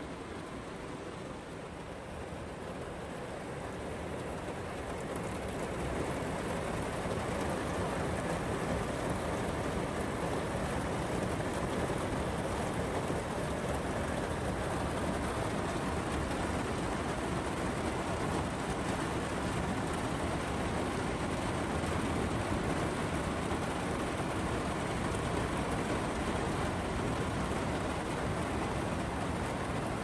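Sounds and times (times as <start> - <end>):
rain falling on a van: 0.0 - 30.0.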